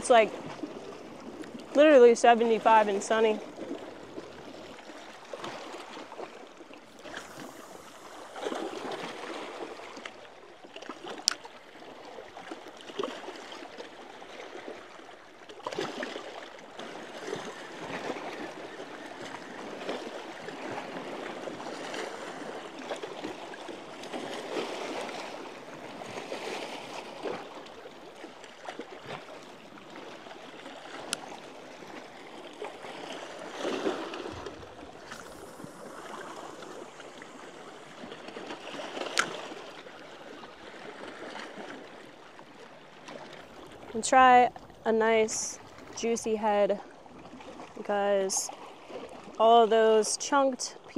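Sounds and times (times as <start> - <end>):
small waves lapping shore: 0.0 - 50.9.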